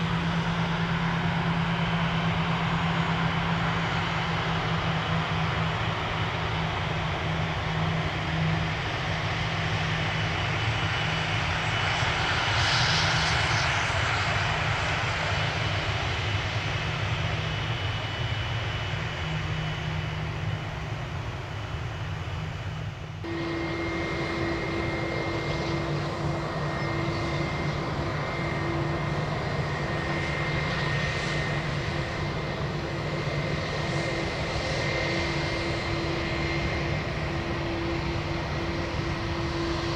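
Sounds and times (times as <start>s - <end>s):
engine whine: 0.0s - 39.9s
jet engine noise: 0.0s - 39.9s.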